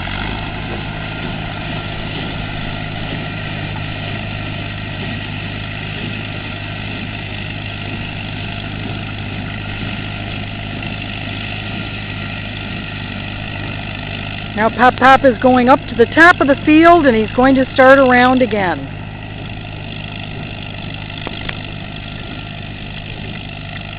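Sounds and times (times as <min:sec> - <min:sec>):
hay baler machinery running: 0:00.0 - 0:23.9
tractor engine drone: 0:00.0 - 0:23.9.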